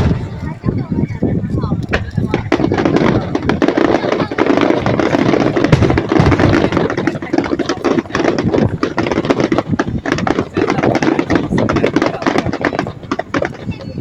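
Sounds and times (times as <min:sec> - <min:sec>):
fireworks popping and banging: 0:00.0 - 0:14.0
steady rumble: 0:00.0 - 0:14.0.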